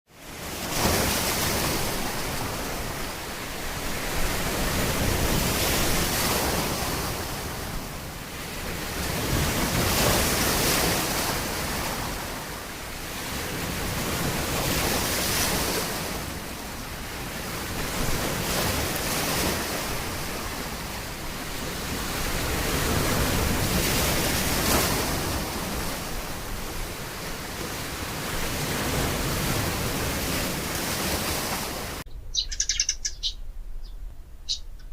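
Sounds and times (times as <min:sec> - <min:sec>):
surf washing onto shore: 0:00.1 - 0:32.0.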